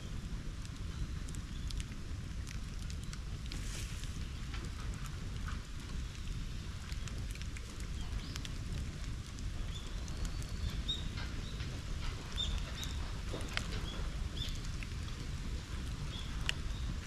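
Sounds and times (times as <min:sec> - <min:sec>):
bonfire crackling and popping: 0:00.0 - 0:17.0
wind rumble on microphone: 0:00.0 - 0:17.0.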